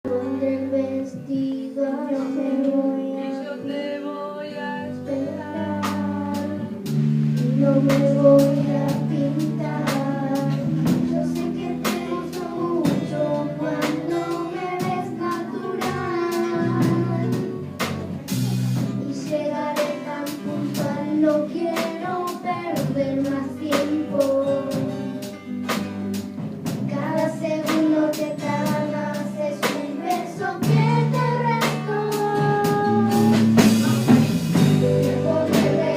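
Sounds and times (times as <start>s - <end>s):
children singing: 0.1s - 25.2s, 26.9s - 35.9s
instrumental accompaniment with beat: 4.8s - 35.9s.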